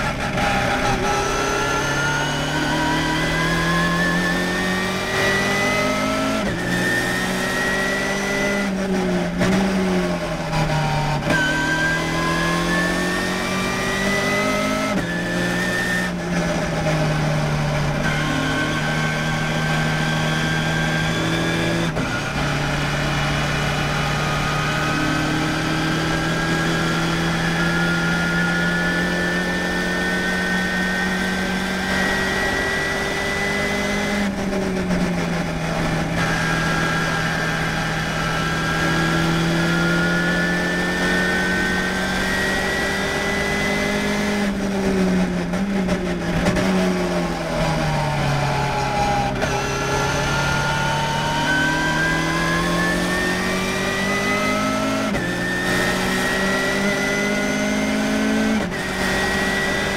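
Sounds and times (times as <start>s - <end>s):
race car engine: 0.0s - 59.9s
road and wind noise: 0.0s - 59.9s.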